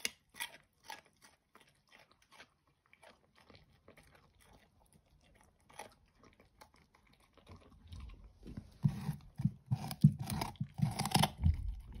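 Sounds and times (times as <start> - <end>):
dog crunching carrot: 0.0 - 12.0.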